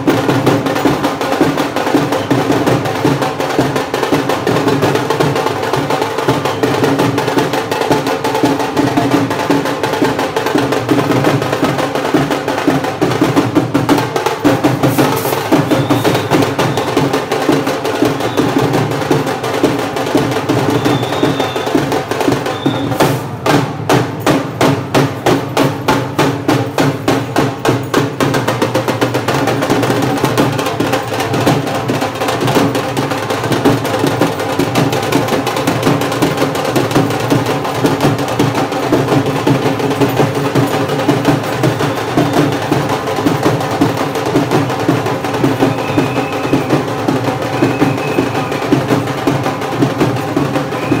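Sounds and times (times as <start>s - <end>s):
fast dhol drumming: 0.0s - 51.0s.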